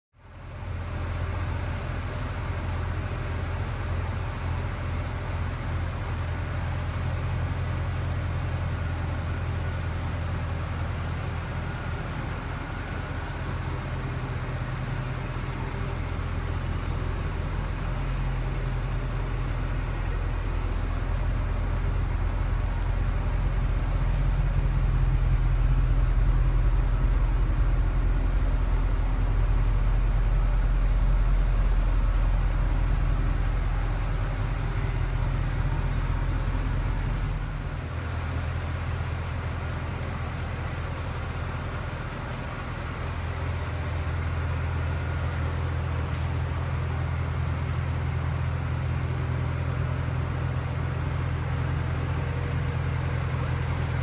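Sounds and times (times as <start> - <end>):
car engine idling: 0.2 - 54.0.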